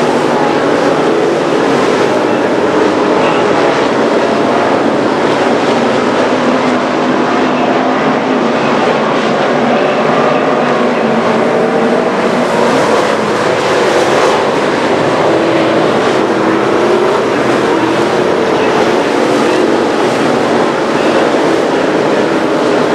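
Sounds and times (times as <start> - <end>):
race car engines running hard: 0.0 - 22.9.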